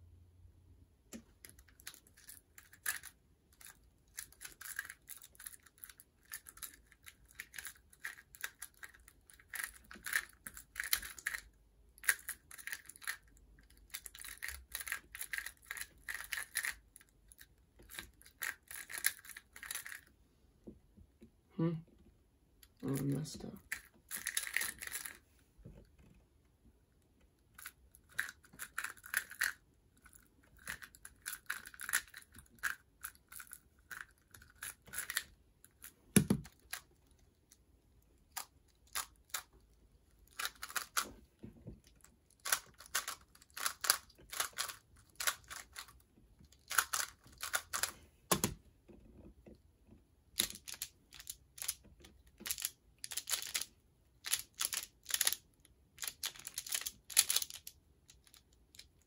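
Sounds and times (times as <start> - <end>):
puzzle cube clicking and rattling: 1.2 - 20.2, 22.6 - 25.2, 27.4 - 41.2, 41.8 - 48.6, 50.3 - 59.0.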